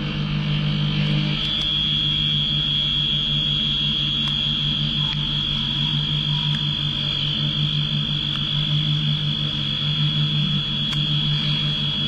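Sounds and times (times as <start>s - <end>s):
high-pitched cutting whine: 0.0s - 12.0s
pulsing machine hum: 0.0s - 12.0s.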